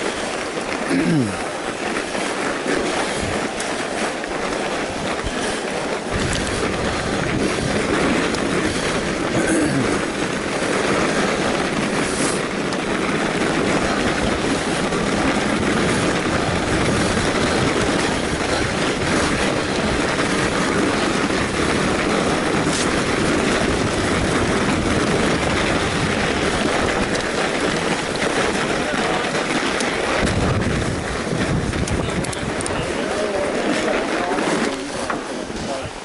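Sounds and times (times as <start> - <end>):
bike rattling: 0.0 - 36.0
bike tyres rolling on snow: 0.0 - 36.0.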